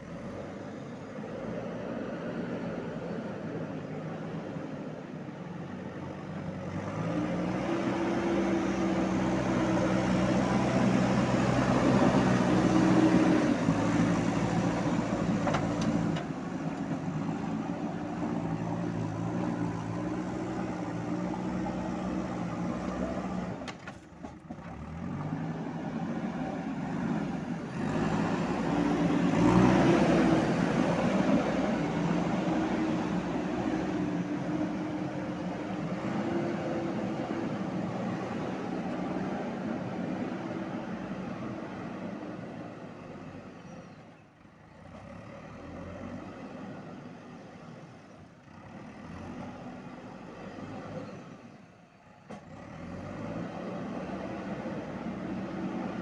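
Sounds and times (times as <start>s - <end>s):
diesel engine revving under load: 5.6s - 56.0s.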